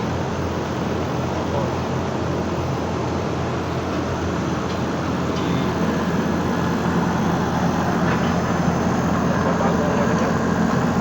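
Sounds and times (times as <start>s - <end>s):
condenser fan rushing: 0.0s - 11.0s.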